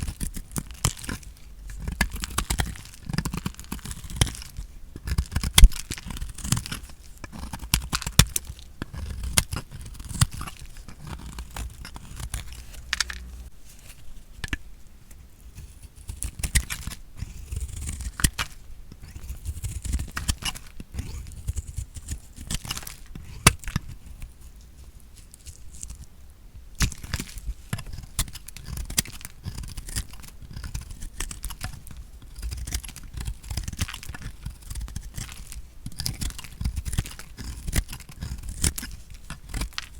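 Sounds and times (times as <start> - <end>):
bar soap being cut crunching: 0.0 - 14.6, 15.4 - 24.4, 26.7 - 39.9.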